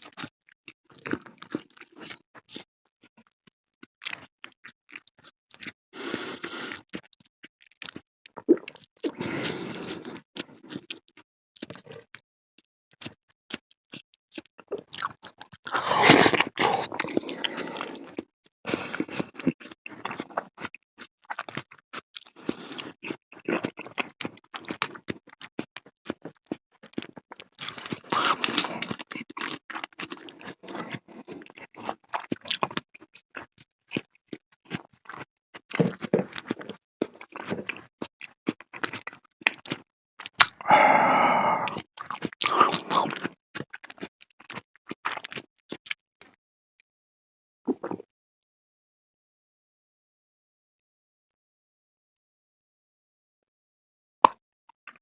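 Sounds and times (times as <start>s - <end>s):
wet chewing and smacking: 0.0s - 12.2s, 13.0s - 46.4s, 47.7s - 48.1s.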